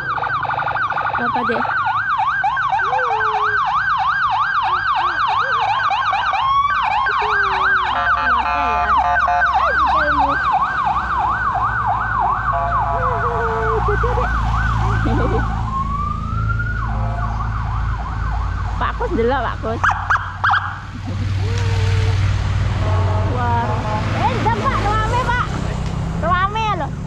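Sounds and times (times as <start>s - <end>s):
police siren yelping: 0.0s - 23.2s
second siren: 0.0s - 25.3s
vehicle engines rumbling: 0.0s - 27.0s.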